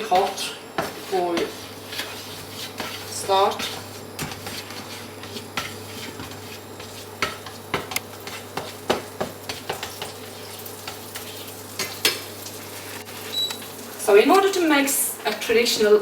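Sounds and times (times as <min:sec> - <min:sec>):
butter sizzling in frying pan: 0:00.0 - 0:16.0.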